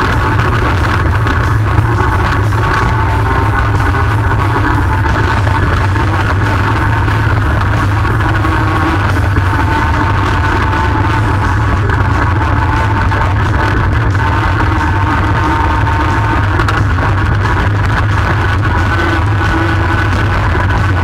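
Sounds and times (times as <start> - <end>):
loud rock music: 0.0 - 21.0.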